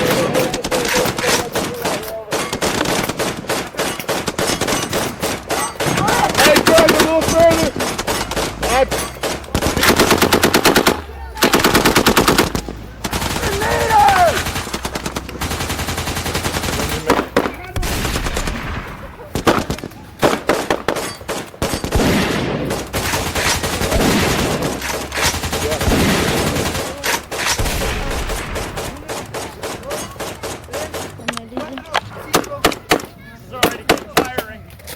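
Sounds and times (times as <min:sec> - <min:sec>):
automatic gunfire: 0:00.0 - 0:34.4.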